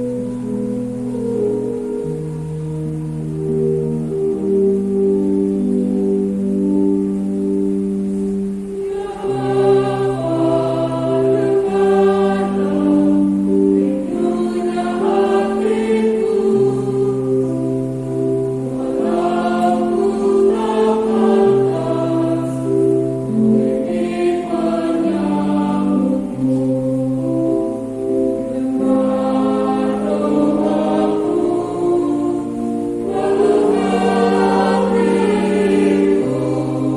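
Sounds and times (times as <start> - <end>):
choir singing a hymn: 0.0 - 36.9.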